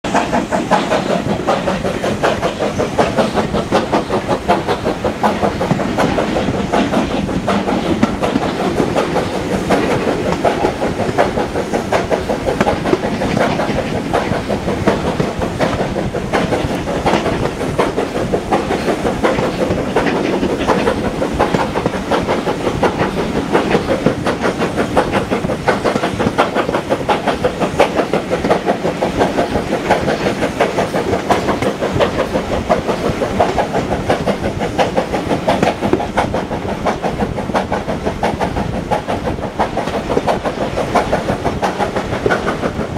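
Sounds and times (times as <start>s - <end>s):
train wheels clattering over rails: 0.0s - 42.9s.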